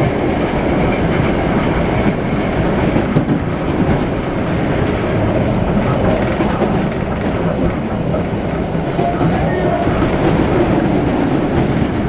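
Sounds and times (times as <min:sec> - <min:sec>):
rumble of wheels on rail: 0:00.0 - 0:12.0.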